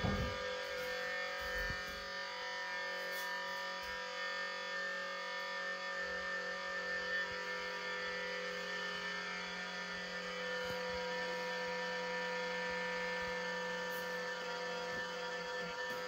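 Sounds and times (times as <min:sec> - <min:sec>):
humidifier whining hum: 0:00.0 - 0:16.0.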